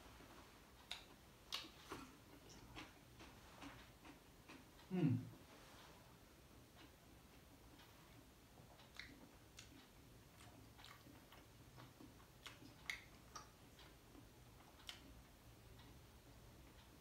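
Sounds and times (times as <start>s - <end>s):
person chewing food: 0.1s - 17.0s.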